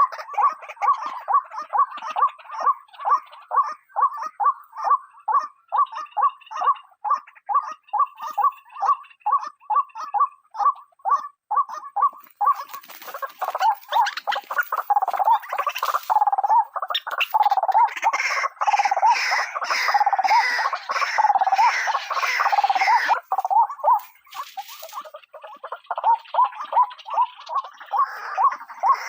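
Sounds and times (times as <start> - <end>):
chorus of croaking calls: 0.0 - 29.0
waterhen calling repeated notes: 0.0 - 29.0.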